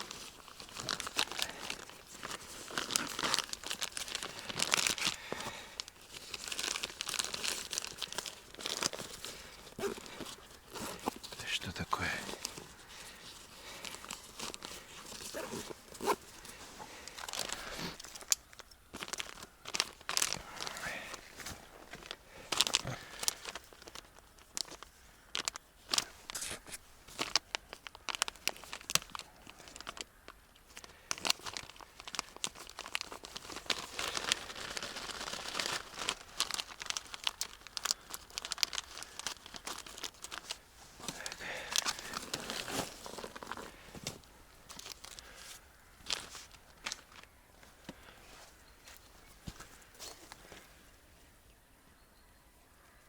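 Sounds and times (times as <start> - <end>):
rustling and crinkling material: 0.0 - 51.3.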